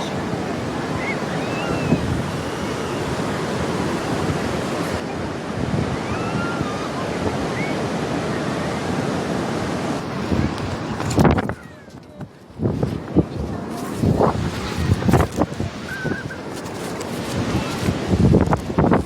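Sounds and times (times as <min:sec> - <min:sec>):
surf washing onto beach: 0:00.0 - 0:19.0
wind on microphone: 0:00.0 - 0:19.0.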